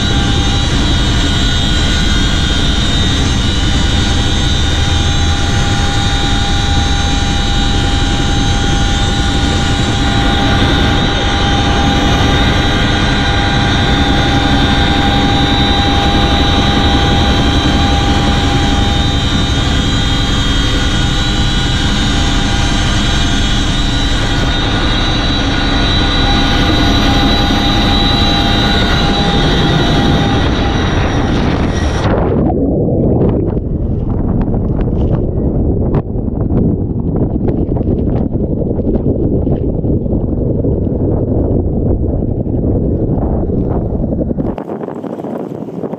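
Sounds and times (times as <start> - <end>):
helicopter engines and rotors droning: 0.0 - 45.9
steady whining tones: 0.0 - 45.9.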